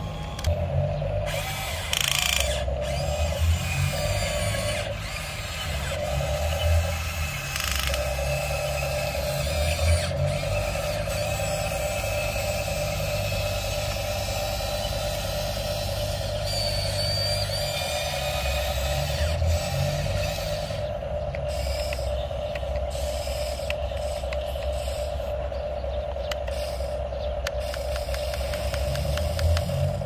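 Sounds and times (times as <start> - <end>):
toy electric motors whirring: 0.0 - 30.0.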